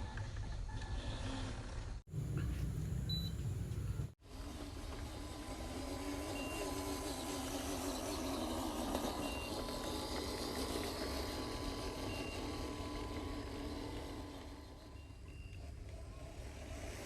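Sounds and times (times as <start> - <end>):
model truck motor whining: 2.1 - 17.0.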